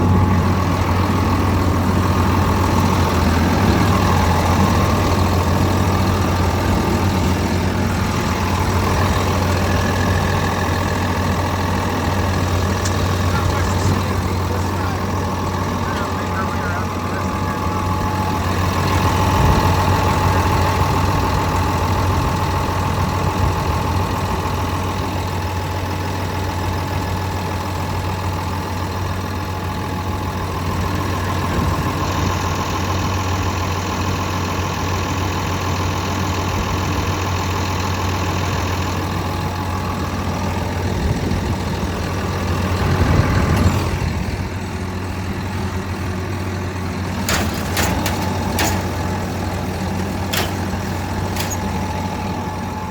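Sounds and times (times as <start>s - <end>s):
bulldozer diesel engine idling: 0.0s - 52.9s.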